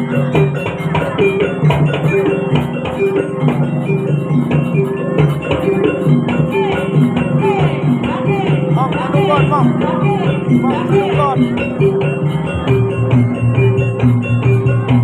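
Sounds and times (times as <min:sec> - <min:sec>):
gamelan metallophones melody: 0:00.0 - 0:15.0
hand drums: 0:00.0 - 0:15.0.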